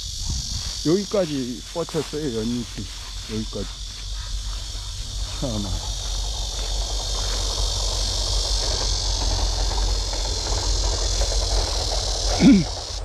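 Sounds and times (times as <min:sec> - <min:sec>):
insects droning: 0:00.0 - 0:13.0
low rumble: 0:00.0 - 0:13.0.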